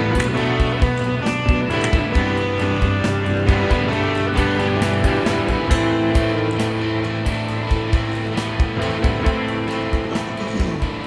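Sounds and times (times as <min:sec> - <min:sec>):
guitar music with steady beat: 0:00.0 - 0:11.0.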